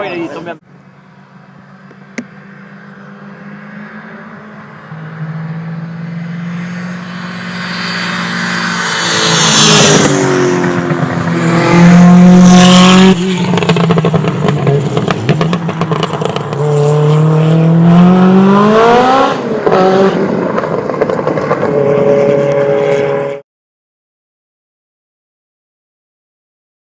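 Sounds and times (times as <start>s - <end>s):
race car engine at full throttle: 0.1s - 23.4s.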